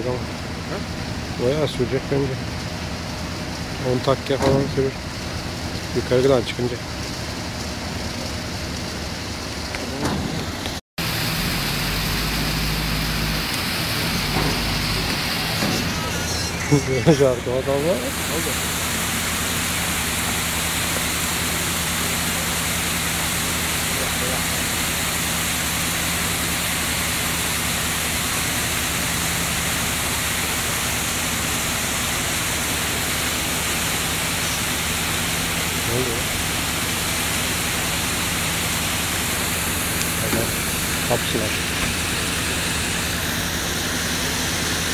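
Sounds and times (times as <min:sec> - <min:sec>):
boat engine droning: 0:00.0 - 0:44.9
water rushing through canal lock: 0:00.0 - 0:44.9.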